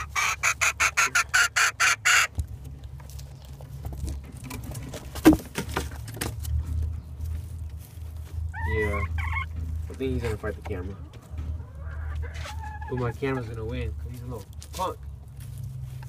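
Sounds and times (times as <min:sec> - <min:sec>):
chickens pecking and tapping: 0:00.0 - 0:16.0
chickens scratching: 0:00.0 - 0:16.0.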